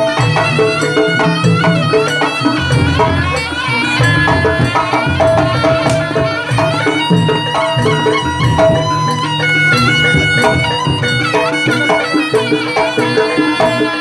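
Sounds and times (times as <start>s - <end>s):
reed wind instrument melody: 0.0s - 14.0s.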